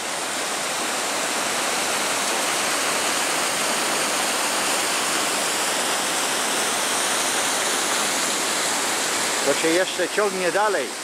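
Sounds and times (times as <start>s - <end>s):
river rushing over weir: 0.0s - 11.0s.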